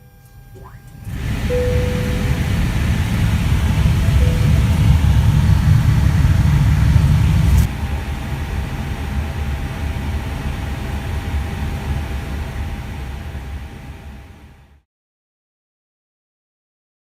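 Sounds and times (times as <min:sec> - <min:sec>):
jet engine rumble: 0:00.4 - 0:14.5.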